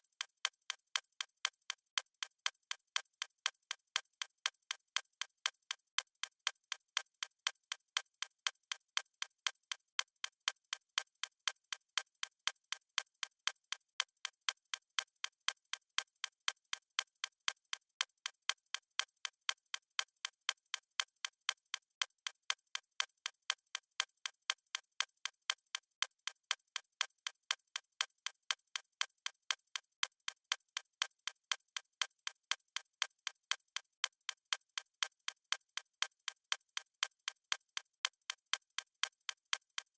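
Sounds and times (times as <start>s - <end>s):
stopwatch ticking: 0.0s - 12.3s, 16.0s - 39.9s.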